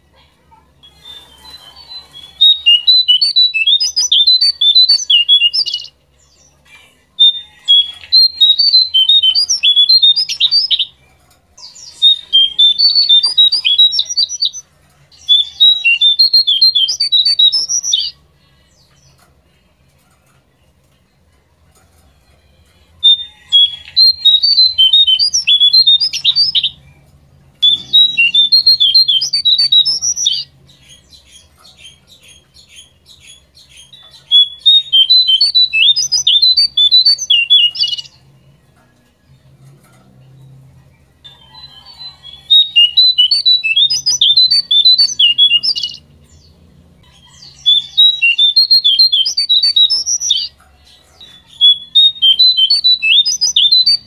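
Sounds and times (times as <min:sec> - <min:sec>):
songbird chattering song: 0:00.8 - 0:21.4, 0:22.0 - 0:39.7, 0:40.3 - 0:54.0.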